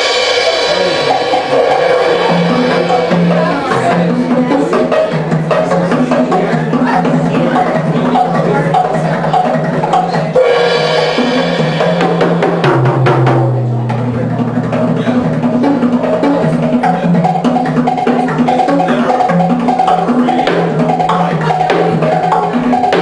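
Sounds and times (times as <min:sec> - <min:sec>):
drum and percussion music: 0:00.0 - 0:23.0.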